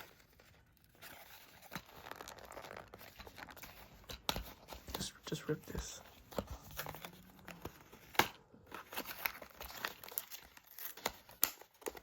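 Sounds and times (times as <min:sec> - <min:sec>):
packaging tearing and crinkling: 0:00.0 - 0:04.5, 0:06.7 - 0:12.0.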